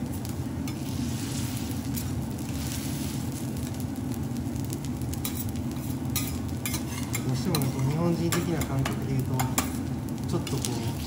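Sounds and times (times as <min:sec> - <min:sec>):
rice sizzling on griddle: 0:00.0 - 0:11.0.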